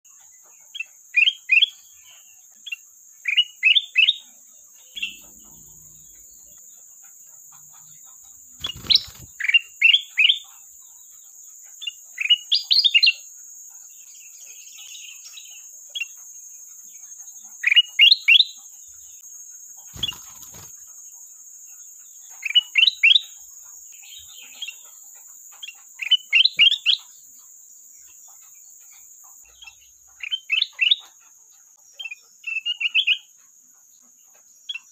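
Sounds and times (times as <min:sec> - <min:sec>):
steady high-pitched hiss: 0:00.1 - 0:34.7.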